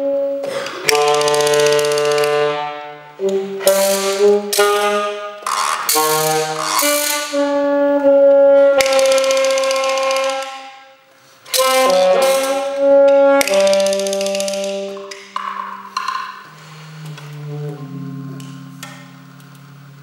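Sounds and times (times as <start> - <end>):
alto saxophone long notes: 0.0 - 10.8, 11.5 - 15.4, 16.5 - 20.0.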